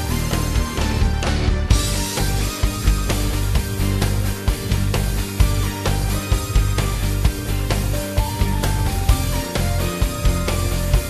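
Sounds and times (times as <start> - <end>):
instrumental rock music: 0.0 - 11.0.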